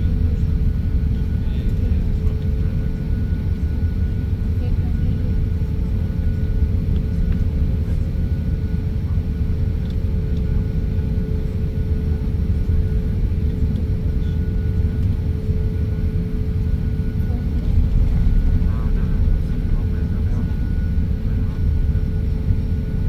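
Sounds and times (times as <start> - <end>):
jet airliner rumble: 0.0 - 23.0
mid-pitched hum: 0.0 - 23.0.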